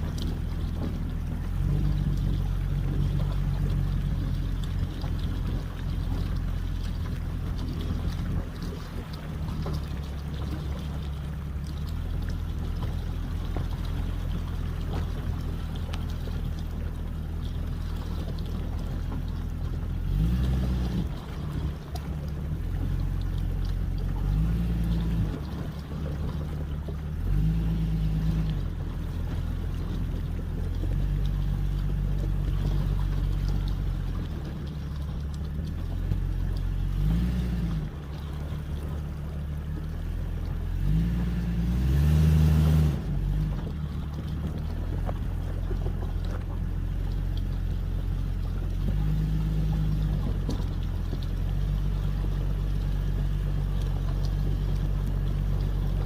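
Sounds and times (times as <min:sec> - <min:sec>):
engine revving at low speed: 0:00.0 - 0:56.0.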